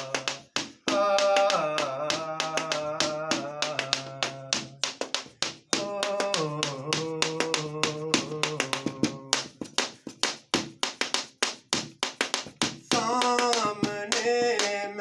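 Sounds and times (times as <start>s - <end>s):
fast hand percussion rhythm: 0.0s - 15.0s.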